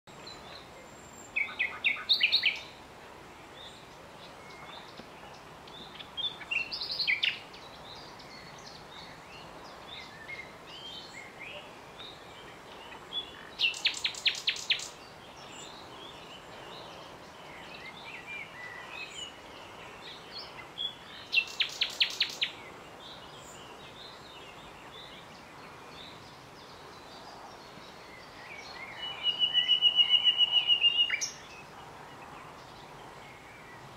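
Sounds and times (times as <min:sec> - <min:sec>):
nightingale singing: 0:00.1 - 0:02.8, 0:03.5 - 0:33.9
background hiss: 0:00.1 - 0:33.9
faint bird chirps: 0:03.5 - 0:33.9.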